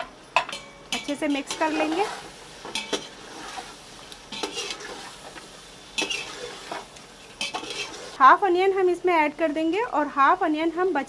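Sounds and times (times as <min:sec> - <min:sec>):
food sizzling in pot: 0:00.0 - 0:11.0.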